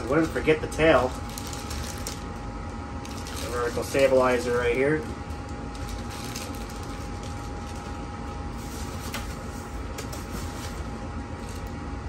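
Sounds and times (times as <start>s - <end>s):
plastic packaging crinkling: 0.0s - 11.8s
background hum: 0.0s - 12.0s.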